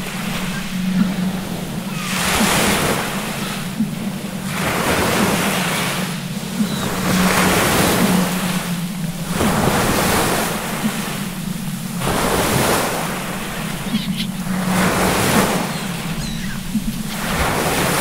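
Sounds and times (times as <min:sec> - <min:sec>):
ocean waves surging: 0:00.0 - 0:18.0
steady low drone: 0:00.0 - 0:18.0.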